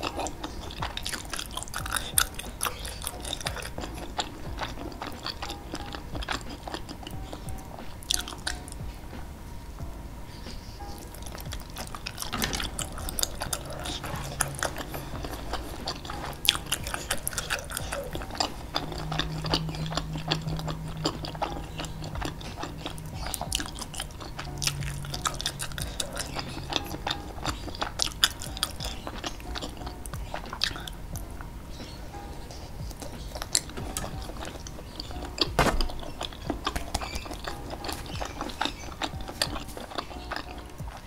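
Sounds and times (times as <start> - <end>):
chewing and wet mouth sounds: 0.0 - 41.0
low steady hums: 0.0 - 41.0.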